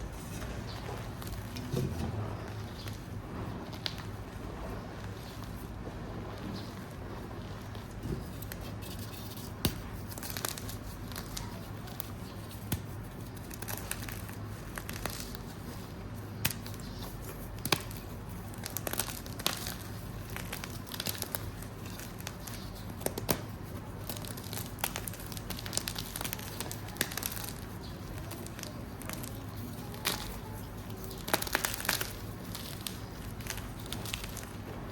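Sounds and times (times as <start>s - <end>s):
chalk crunching and crackling: 0.0s - 34.9s
steady low hum: 0.0s - 34.9s.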